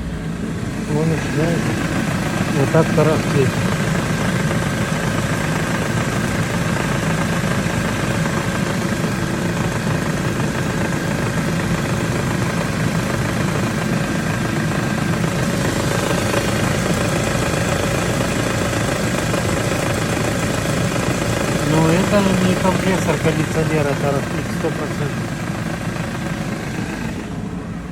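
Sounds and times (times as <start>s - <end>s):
car engine idling: 0.0s - 27.9s
engine rattle: 0.0s - 27.9s.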